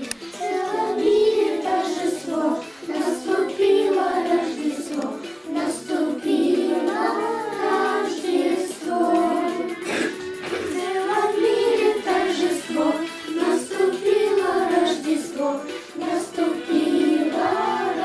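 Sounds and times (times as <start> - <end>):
backing track music: 0.0 - 18.0
children singing: 0.0 - 18.0.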